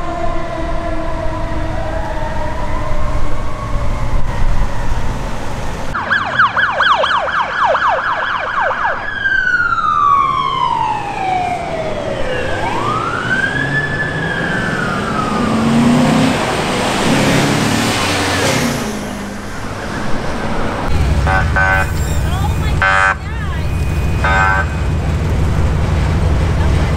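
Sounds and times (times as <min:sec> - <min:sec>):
police siren yelp and wail: 0:00.0 - 0:18.7, 0:20.7 - 0:25.2
traffic rumble: 0:00.0 - 0:26.9.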